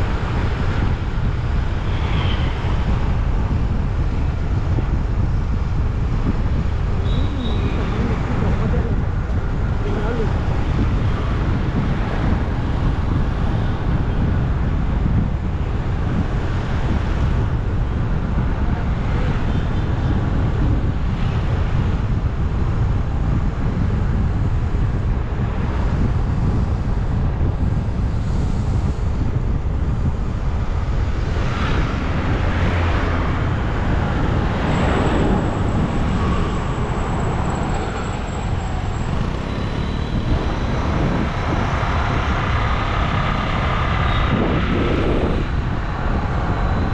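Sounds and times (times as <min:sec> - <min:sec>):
road and traffic noise: 0:00.0 - 0:46.9
wind rumble on microphone: 0:00.0 - 0:46.9.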